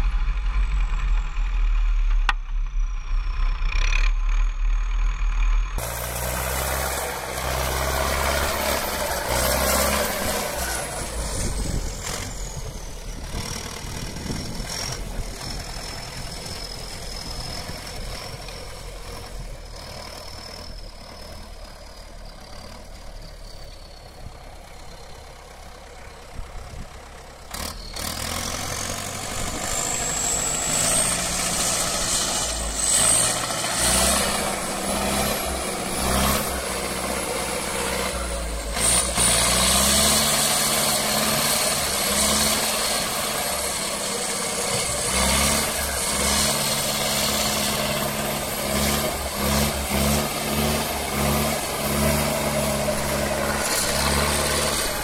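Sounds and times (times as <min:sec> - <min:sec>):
tractor diesel engine revving: 0:00.0 - 0:55.0.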